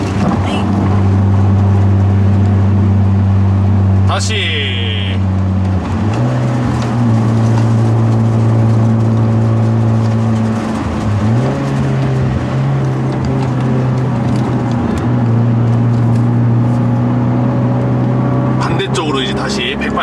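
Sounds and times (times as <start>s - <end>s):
car engine pulling: 0.0s - 20.0s.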